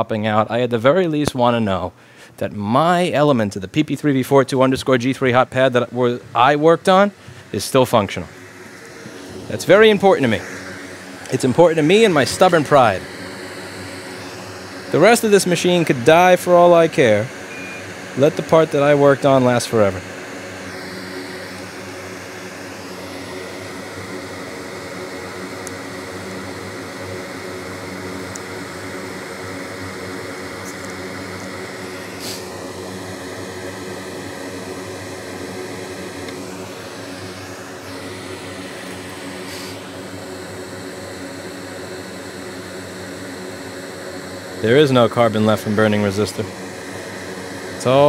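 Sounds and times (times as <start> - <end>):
fan-driven machine whirring: 0.0 - 48.0
high whine shifting pitch: 2.6 - 48.0.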